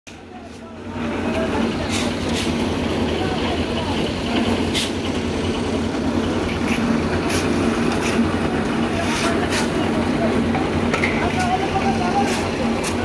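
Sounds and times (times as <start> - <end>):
concrete mixer engine running: 0.2 - 13.0.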